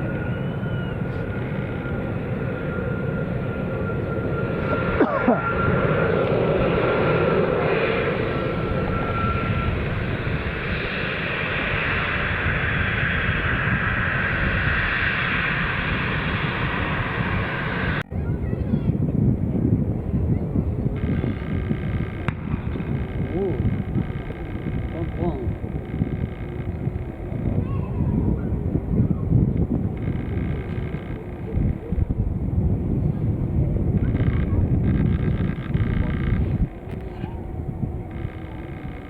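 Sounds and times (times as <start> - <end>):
jet engines rushing: 0.0 - 39.0
thin engine whine: 0.0 - 39.0.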